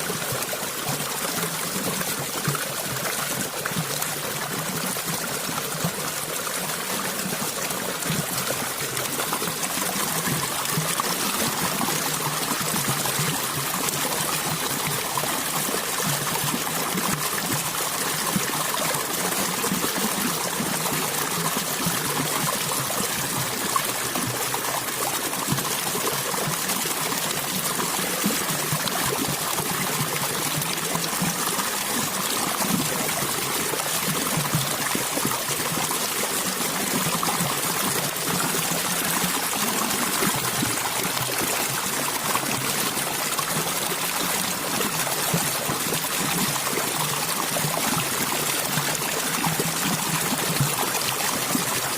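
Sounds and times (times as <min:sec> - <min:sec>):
water flowing and trickling: 0:00.0 - 0:51.9.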